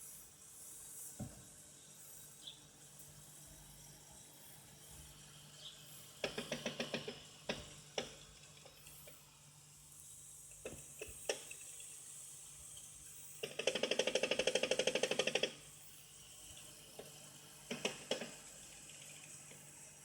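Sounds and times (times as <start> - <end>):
faint refrigerator hum: 0.0 - 20.0.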